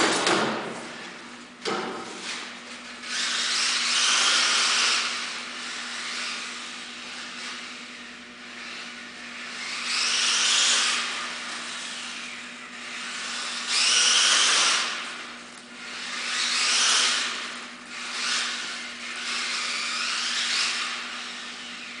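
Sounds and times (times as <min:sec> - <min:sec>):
rc car motor whine: 0:02.2 - 0:22.0.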